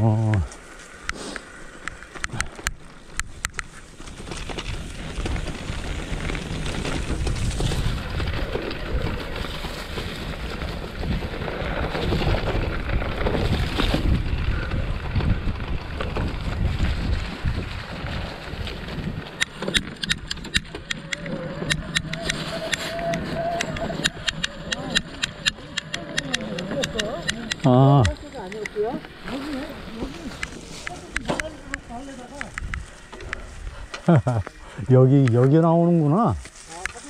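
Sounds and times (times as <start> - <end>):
bike tyres rolling over leaves: 0.0 - 37.0
bike clicks and rattles: 0.3 - 35.7
wind buffeting microphone: 4.4 - 35.4.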